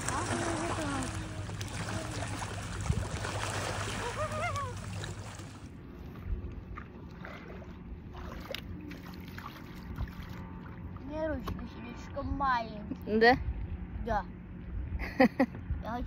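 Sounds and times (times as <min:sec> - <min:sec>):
water lapping: 0:00.0 - 0:15.3
water at lakeshore: 0:00.0 - 0:16.0.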